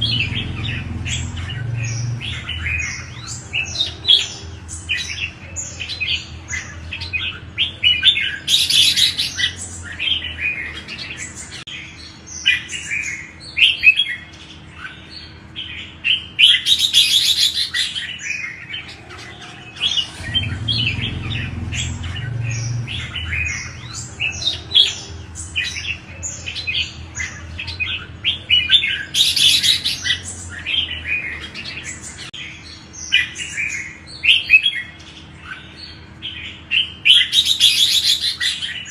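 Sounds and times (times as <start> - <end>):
bulbuls chirping and warbling: 0.0 - 38.9.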